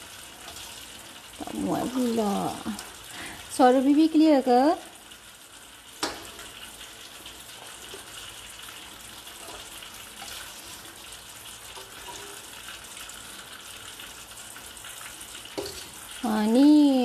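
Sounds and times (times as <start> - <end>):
cooking hiss on stove: 0.0 - 17.0.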